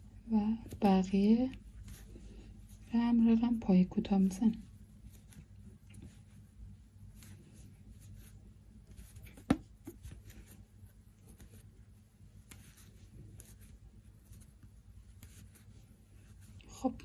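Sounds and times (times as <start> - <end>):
steady low hum: 0.0 - 17.0
crochet hook scratching yarn: 0.5 - 16.7.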